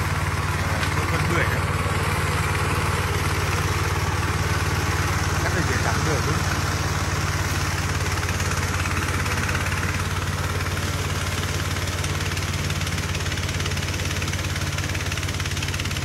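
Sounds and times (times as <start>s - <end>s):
mower engine running steadily: 0.0s - 16.0s.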